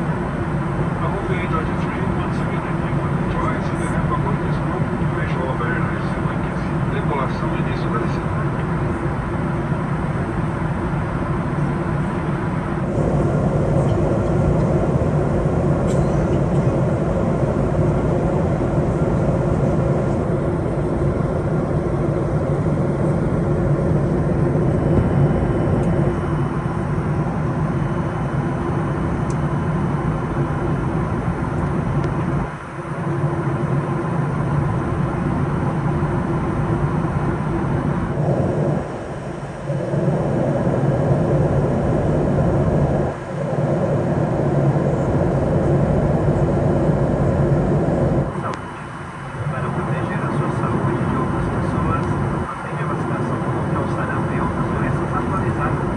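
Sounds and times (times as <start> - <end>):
airliner cabin airflow rush: 0.0 - 55.9
low hum of jet engines: 0.0 - 55.9.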